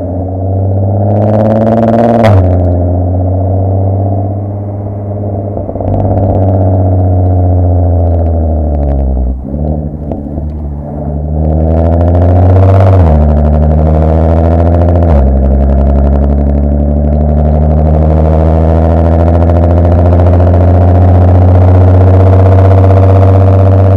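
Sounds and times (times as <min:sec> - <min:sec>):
raspy car engine and exhaust: 0:00.0 - 0:23.9.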